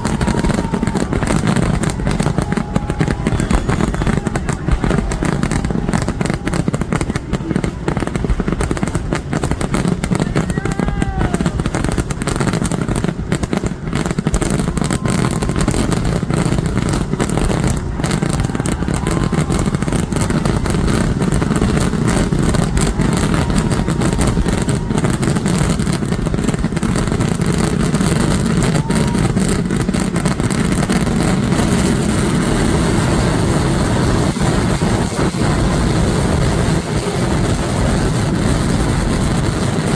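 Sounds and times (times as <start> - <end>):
crackling fireworks bangs: 0.0 - 39.9
whistling fireworks glides: 0.0 - 39.9.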